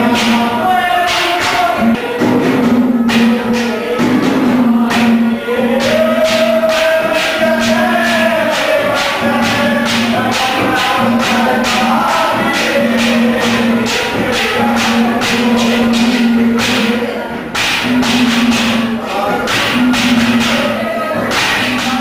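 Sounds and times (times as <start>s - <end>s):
held melodic line: 0.0s - 22.0s
jingling percussion: 0.0s - 22.0s.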